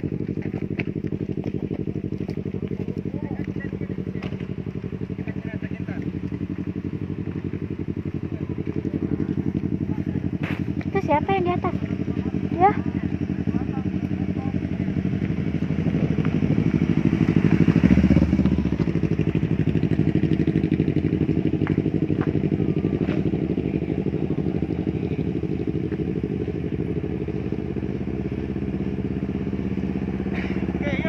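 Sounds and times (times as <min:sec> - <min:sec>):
motorcycle idling: 0:00.0 - 0:31.0
motorcycle riding past: 0:00.0 - 0:31.0.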